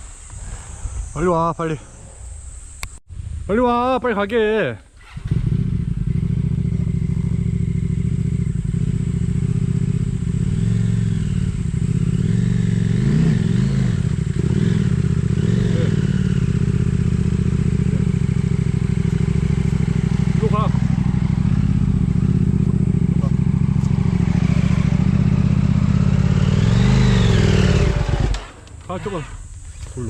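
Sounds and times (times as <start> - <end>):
motorcycle engine revving: 5.0 - 30.0.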